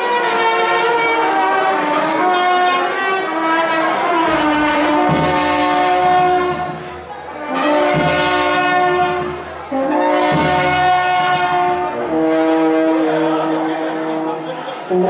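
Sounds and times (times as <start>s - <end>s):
brass band holding chords: 0.0s - 15.0s
deep tuba note: 0.1s - 15.0s.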